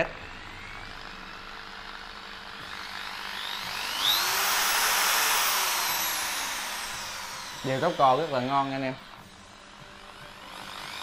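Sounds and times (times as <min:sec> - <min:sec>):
hammer drill motor whining: 0:00.0 - 0:11.0.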